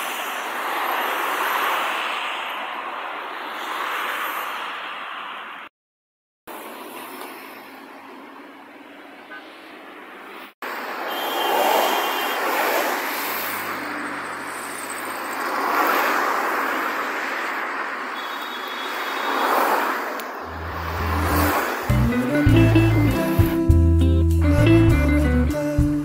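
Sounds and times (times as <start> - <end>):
cars driving past: 0.0 - 5.7, 6.5 - 23.6
low road noise: 0.0 - 5.7, 6.5 - 25.4.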